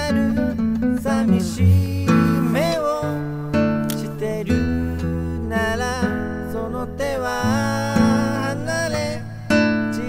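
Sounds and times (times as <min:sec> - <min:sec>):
acoustic guitar song: 0:00.0 - 0:10.0.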